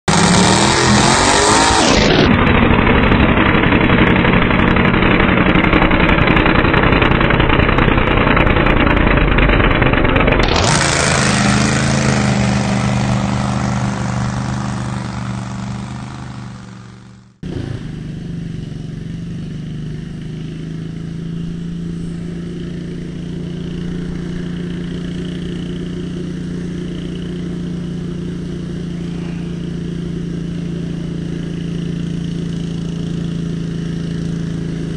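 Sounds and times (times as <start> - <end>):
quieter engine drone: 0.1 - 34.9
tractor engine running under load: 0.1 - 34.9.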